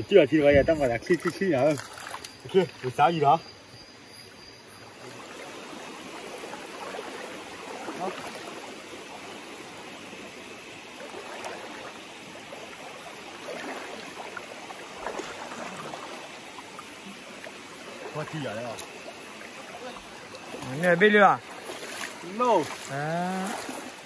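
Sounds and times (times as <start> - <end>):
water sloshing and splashing: 0.0 - 3.4, 4.8 - 24.0
water trickling: 0.0 - 24.0.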